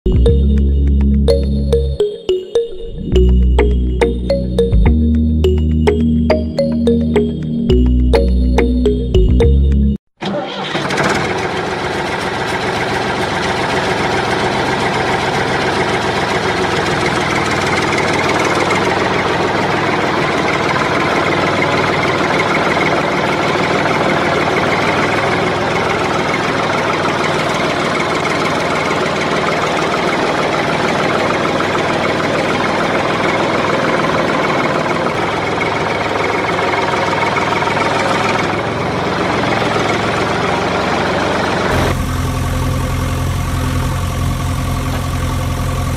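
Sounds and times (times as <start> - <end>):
tractor engine running: 3.1 - 45.9.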